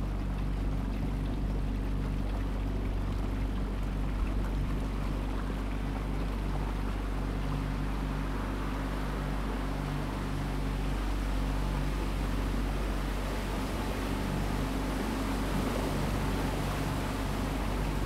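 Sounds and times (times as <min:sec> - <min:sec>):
motorboat engine running: 0:00.0 - 0:18.0
water washing along hull: 0:00.0 - 0:18.0.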